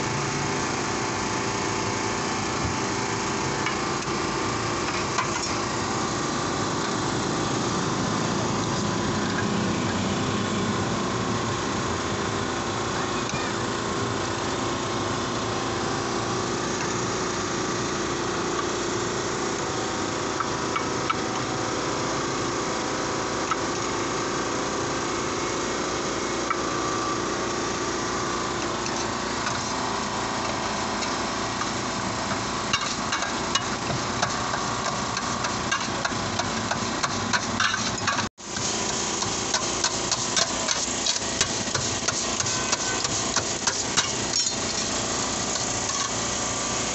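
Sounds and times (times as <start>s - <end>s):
mechanical hum and rush: 0.0s - 46.9s.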